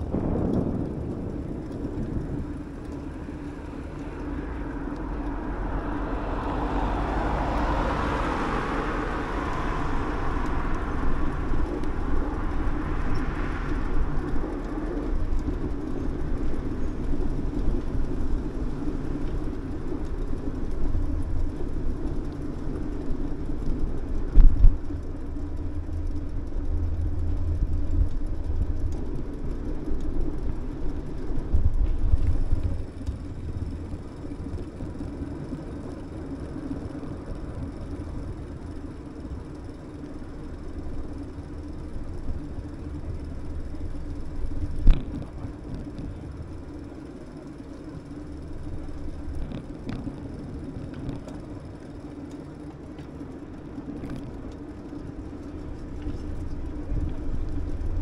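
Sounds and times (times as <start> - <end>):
wind buffeting microphone: 0.0 - 47.0
bicycle tyres rolling on pavement: 0.0 - 58.0.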